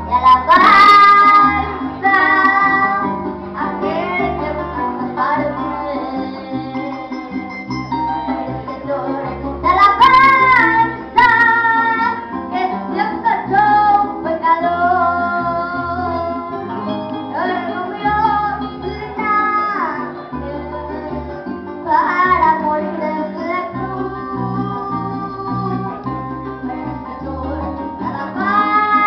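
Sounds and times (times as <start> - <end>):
instrumental accompaniment: 0.0 - 29.0.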